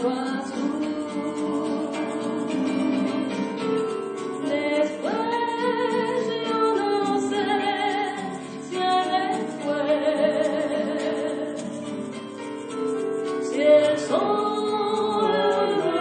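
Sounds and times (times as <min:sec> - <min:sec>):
voices singing with accompaniment: 0:00.0 - 0:16.0.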